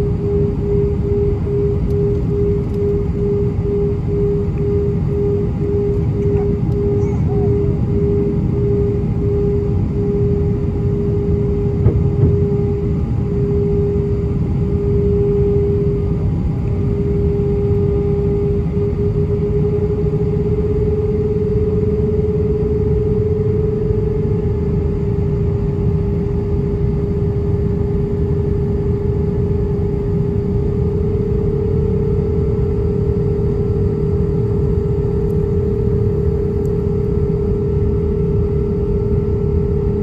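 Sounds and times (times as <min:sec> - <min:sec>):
jet engine whine: 0:00.0 - 0:40.0
jet engines low rumble: 0:00.0 - 0:40.0.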